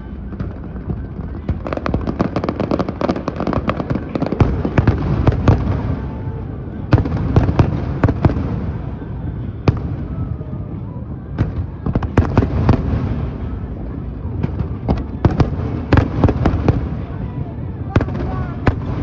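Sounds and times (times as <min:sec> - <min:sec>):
continuous low rumble: 0:00.0 - 0:19.0
fireworks bangs and crackles: 0:00.0 - 0:19.0.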